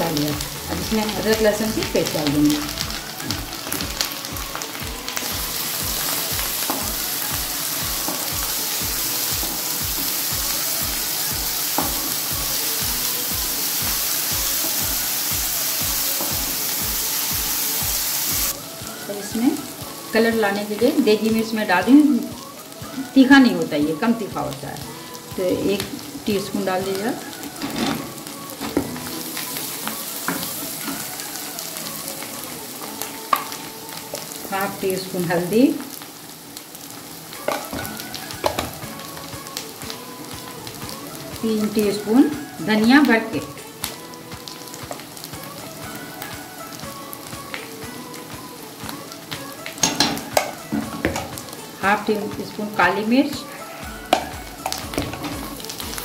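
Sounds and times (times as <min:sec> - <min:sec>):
onion sizzling in hot oil: 0:00.0 - 0:56.0.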